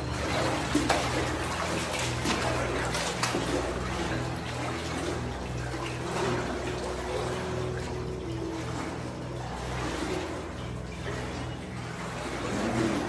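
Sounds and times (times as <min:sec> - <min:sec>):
people wading through water: 0:00.0 - 0:13.0.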